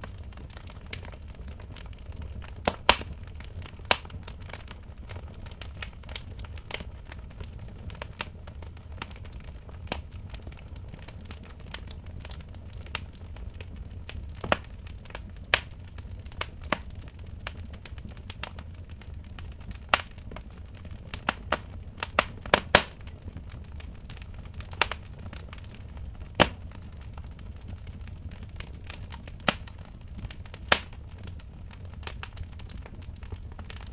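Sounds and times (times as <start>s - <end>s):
fire popping: 0.0s - 33.9s
wood fire crackling: 0.0s - 33.9s.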